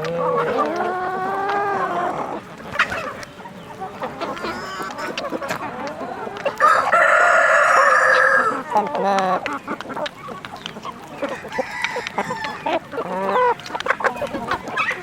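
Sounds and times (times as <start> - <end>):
chickens clucking and calling: 0.0 - 15.0
long steady chicken call: 0.0 - 15.0.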